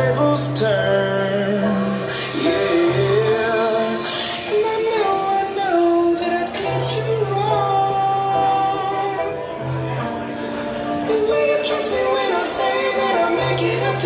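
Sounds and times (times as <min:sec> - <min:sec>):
pop song over sound system: 0:00.0 - 0:14.0.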